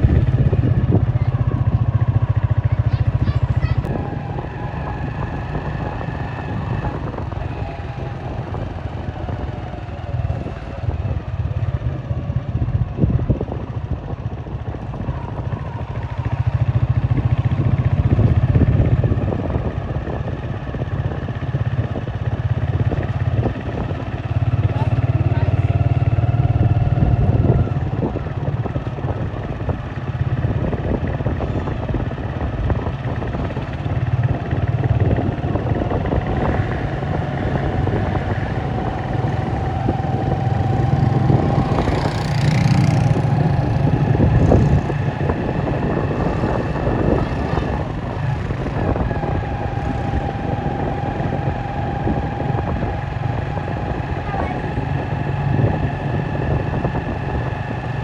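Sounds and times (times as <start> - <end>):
motorcycles passing: 0.0 - 58.0
road traffic rumble: 0.0 - 58.0.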